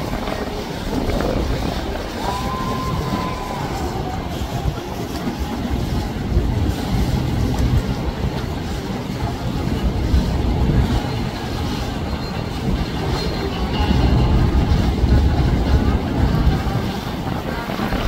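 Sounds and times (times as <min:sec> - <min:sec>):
motorboat rumble: 0:00.0 - 0:18.0
water wash: 0:00.0 - 0:18.0
wind on microphone: 0:00.0 - 0:18.0.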